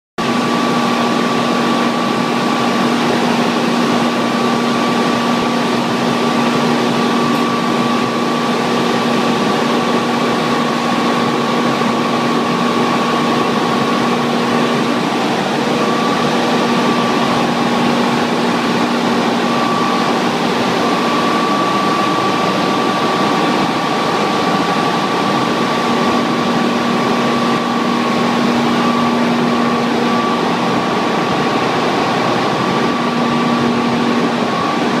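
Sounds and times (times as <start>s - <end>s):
turbine generator humming: 0.2s - 35.0s
high constant tone: 0.3s - 35.0s.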